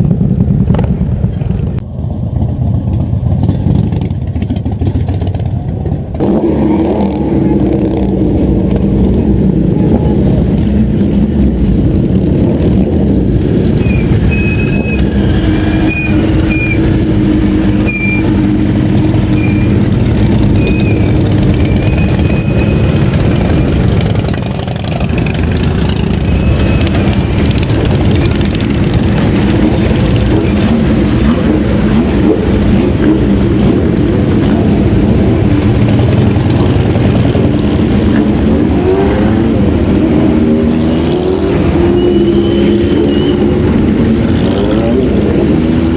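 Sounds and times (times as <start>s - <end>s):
vehicle engines running: 0.0s - 45.9s.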